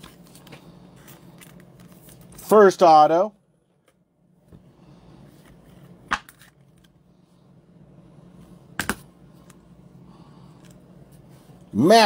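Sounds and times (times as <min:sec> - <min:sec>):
faint low steady hum: 0:00.0 - 0:12.0.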